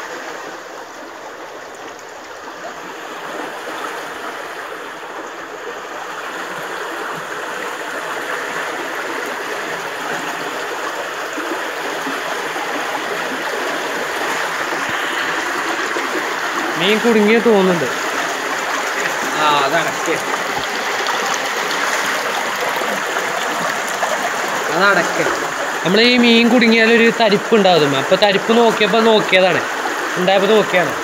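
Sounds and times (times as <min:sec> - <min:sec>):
muddy stream rushing: 0:00.0 - 0:31.0.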